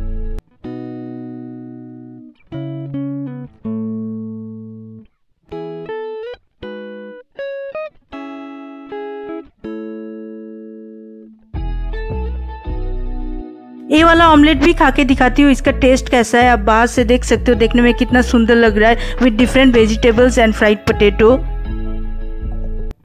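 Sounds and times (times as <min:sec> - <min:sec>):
plucked string chords: 0:00.0 - 0:23.0.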